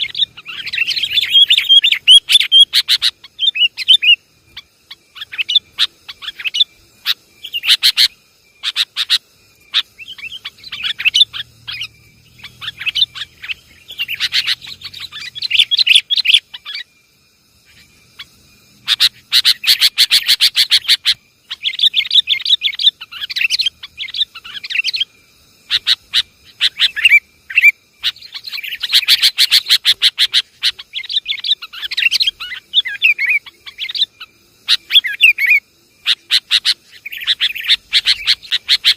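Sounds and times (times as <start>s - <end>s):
bulbuls chattering and chirping: 0.0s - 16.9s, 17.6s - 25.1s, 25.7s - 38.9s.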